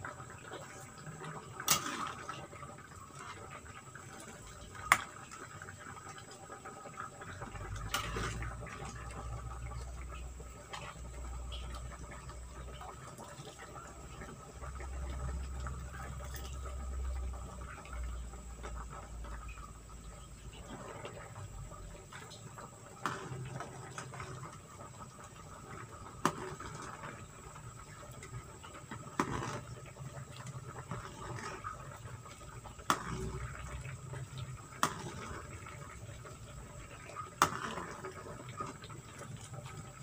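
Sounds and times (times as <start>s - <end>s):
soup simmering in a wok: 0.0s - 40.0s.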